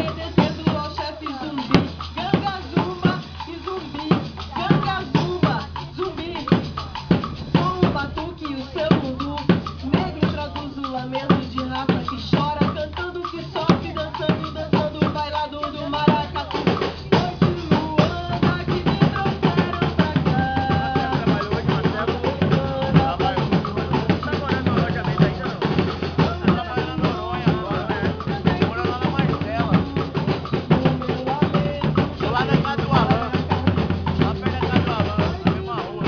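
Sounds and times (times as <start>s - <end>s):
bass and snare drumming: 0.0s - 36.0s
person singing: 0.0s - 36.0s.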